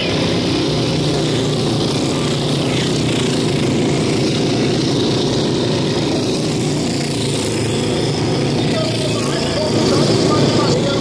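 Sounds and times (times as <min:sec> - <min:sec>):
motorcycles racing around track: 0:00.0 - 0:11.0.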